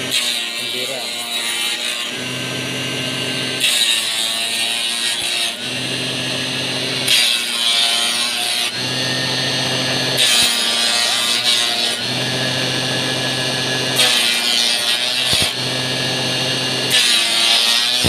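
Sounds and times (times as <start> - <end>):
wood cutter cutting sticks: 0.0 - 18.0.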